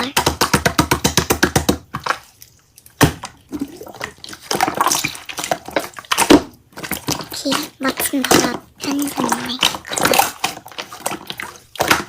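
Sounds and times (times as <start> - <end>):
slime squishing by hand: 0.0 - 12.0.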